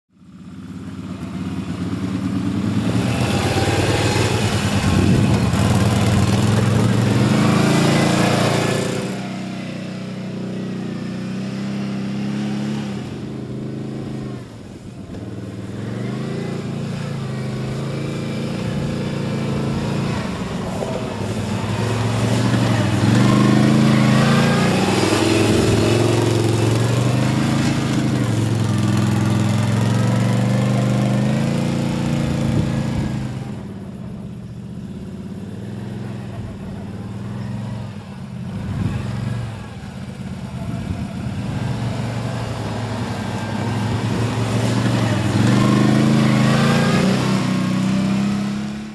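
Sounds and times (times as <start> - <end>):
quad bike engine revving: 0.4 - 48.9.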